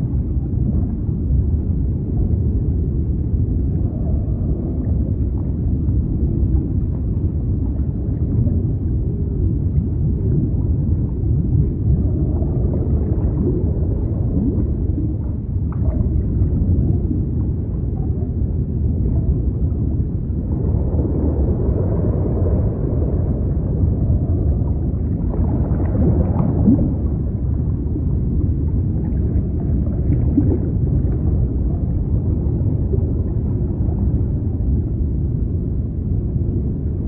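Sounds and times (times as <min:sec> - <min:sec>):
sea waves rumbling: 0:00.0 - 0:37.0.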